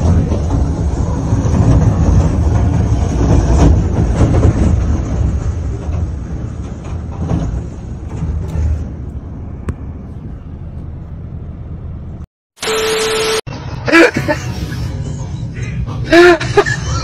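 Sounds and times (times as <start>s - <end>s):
train cars rumbling and scraping: 0.0s - 17.0s.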